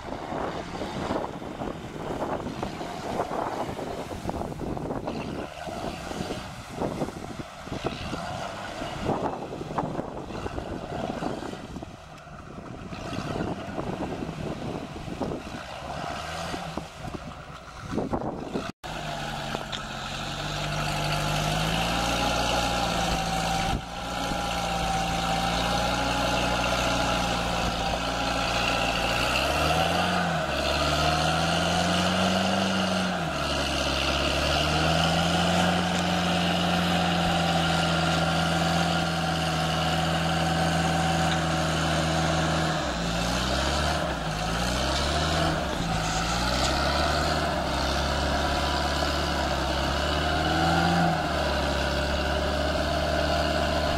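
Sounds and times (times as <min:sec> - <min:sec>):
off-road vehicle engine under load: 0:00.0 - 0:53.9.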